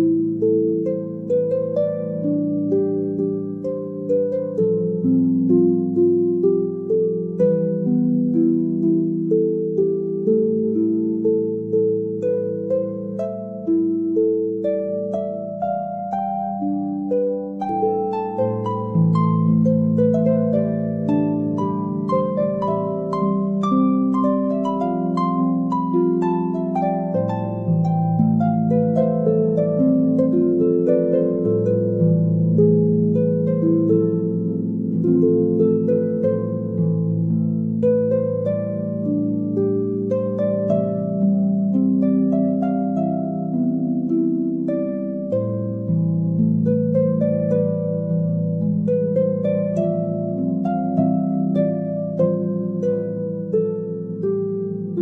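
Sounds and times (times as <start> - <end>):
slow plucked melody: 0.0 - 55.0.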